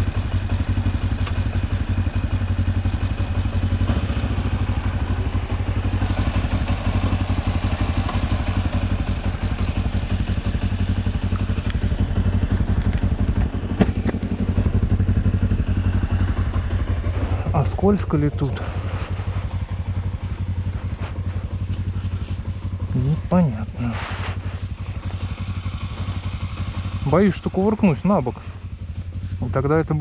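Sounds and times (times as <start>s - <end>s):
motorcycle engine running at low revs: 0.0s - 30.0s.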